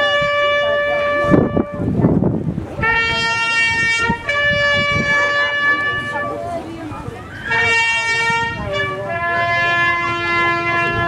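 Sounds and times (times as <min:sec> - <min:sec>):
long held horn notes: 0:00.0 - 0:02.0, 0:02.8 - 0:06.7, 0:07.5 - 0:11.0.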